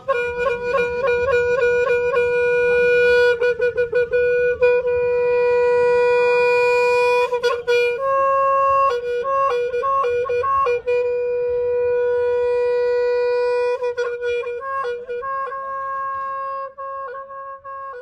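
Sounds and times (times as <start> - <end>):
solo wind instrument melody: 0.0 - 18.0.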